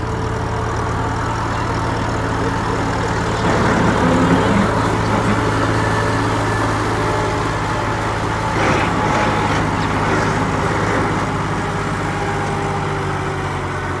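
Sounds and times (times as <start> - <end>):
tractor diesel engines under load: 0.0 - 14.0.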